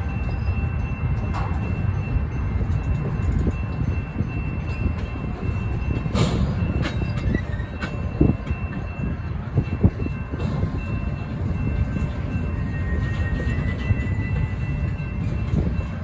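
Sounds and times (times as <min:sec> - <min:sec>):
freight cars clanking and rattling: 0:00.0 - 0:16.0
steel wheels rumbling on rail: 0:00.0 - 0:16.0.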